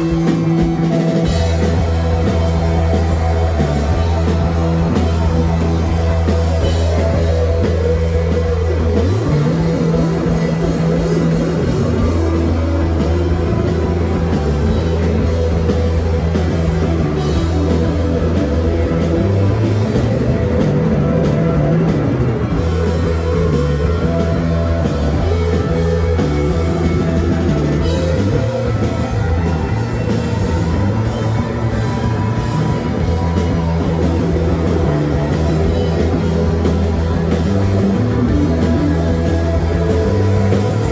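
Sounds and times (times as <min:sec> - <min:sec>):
bass guitar: 0:00.0 - 0:40.9
distorted electric guitars: 0:00.0 - 0:40.9
drum kit: 0:00.0 - 0:40.9.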